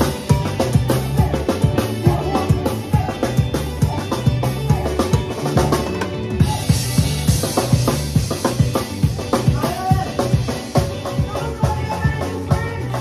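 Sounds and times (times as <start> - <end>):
live band playing upbeat song: 0.0 - 13.0.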